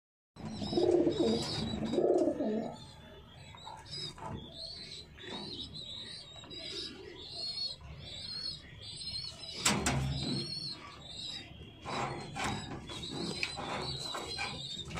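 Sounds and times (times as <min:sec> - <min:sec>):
high bird chirps: 0:00.4 - 0:14.9
pigeons cooing: 0:00.4 - 0:14.9.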